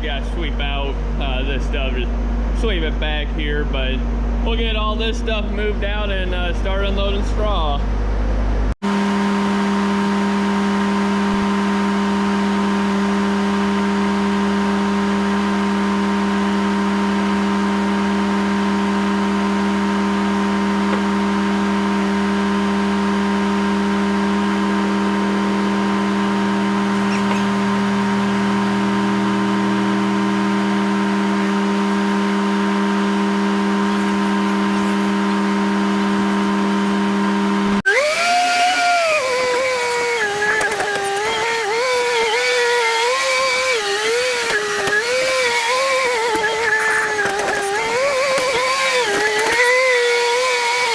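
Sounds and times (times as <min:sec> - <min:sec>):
tractor engine running: 0:10.1 - 0:50.9.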